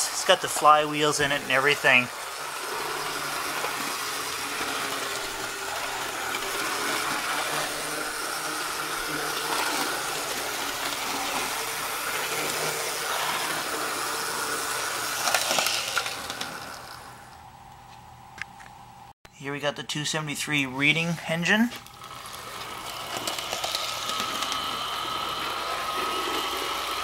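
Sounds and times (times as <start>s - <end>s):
model train motor whirring: 0.0s - 17.4s, 21.7s - 27.0s.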